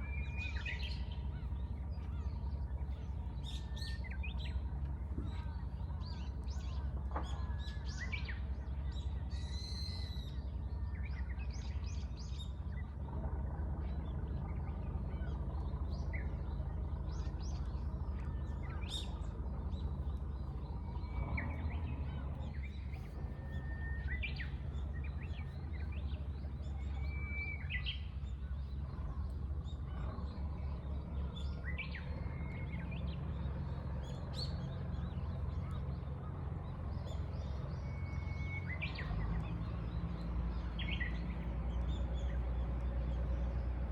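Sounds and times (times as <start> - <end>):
steady low rumble: 0.0 - 43.9.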